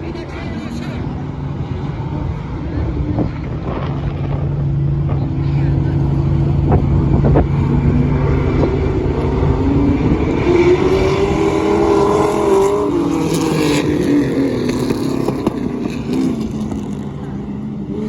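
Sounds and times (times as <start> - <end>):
race car engines: 0.0 - 18.0
race car passing by: 0.0 - 18.0.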